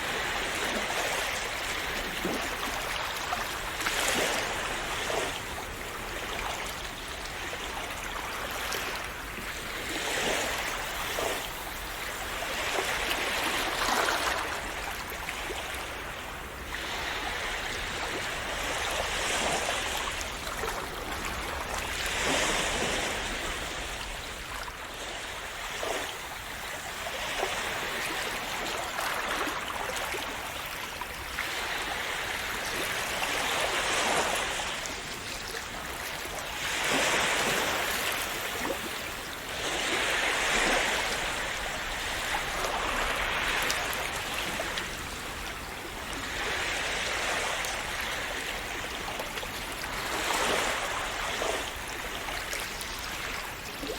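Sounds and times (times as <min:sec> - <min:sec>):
small waves splashing on shore: 0:00.0 - 0:53.9.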